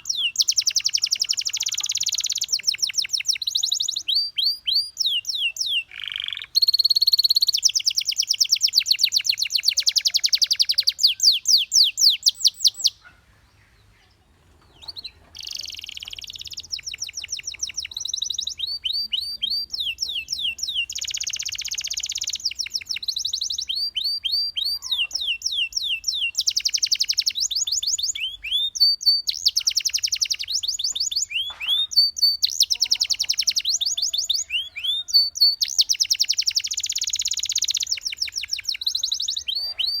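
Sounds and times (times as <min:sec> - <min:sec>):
canary singing: 0:00.0 - 0:40.0.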